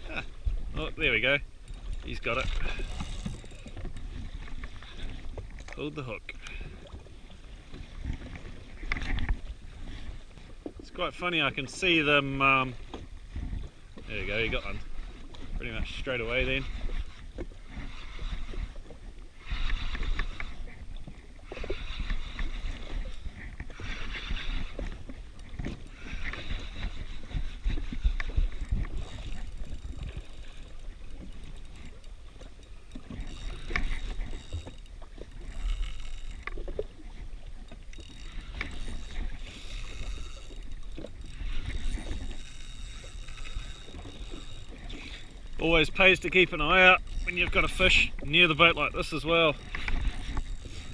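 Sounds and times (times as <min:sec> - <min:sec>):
waves slapping against hull: 0:00.0 - 0:50.9.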